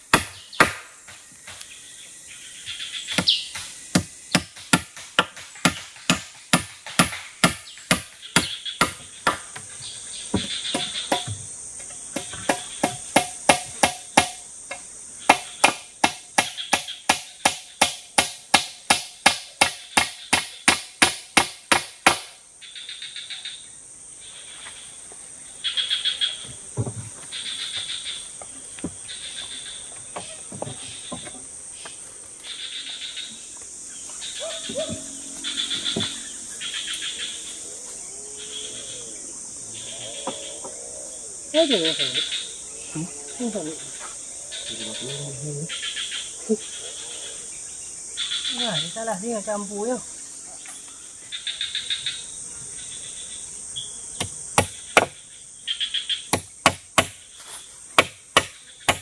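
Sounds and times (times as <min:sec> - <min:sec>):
high insect whine: 0:00.0 - 0:59.0
insects chirping in bursts: 0:00.0 - 0:59.0.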